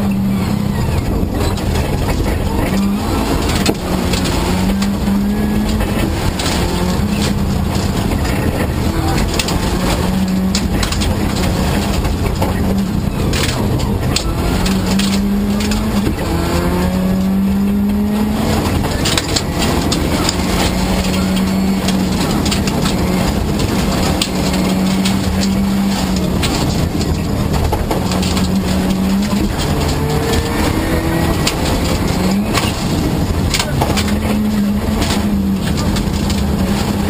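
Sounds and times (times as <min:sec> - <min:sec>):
rally car engine revving: 0:00.0 - 0:37.0
gravel striking car underside: 0:00.8 - 0:37.0.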